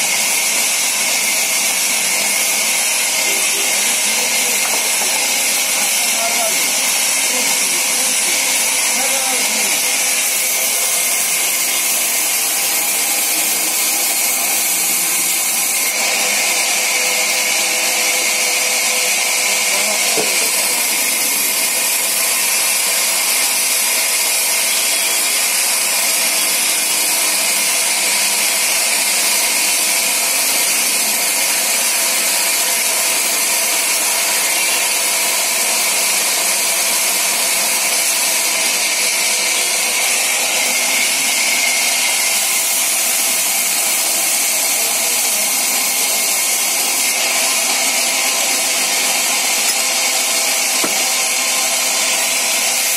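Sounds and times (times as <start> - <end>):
band saw cutting log: 0.0 - 52.9.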